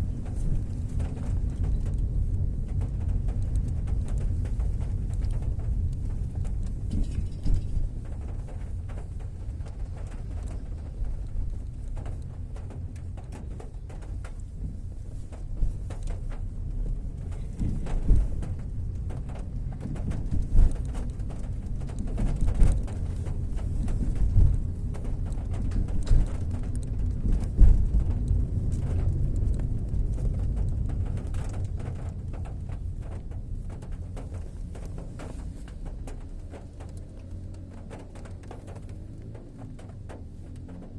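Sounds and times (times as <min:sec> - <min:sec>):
deep low rumble: 0:00.0 - 0:40.9
heavy rain: 0:00.0 - 0:40.9
rain drips and taps: 0:00.0 - 0:40.9.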